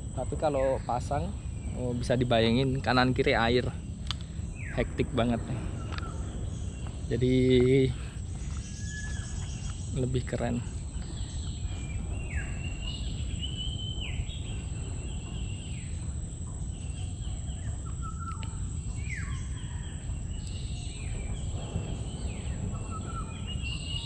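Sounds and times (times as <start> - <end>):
birds whistling: 0.0 - 24.0
low rumble: 0.0 - 24.0.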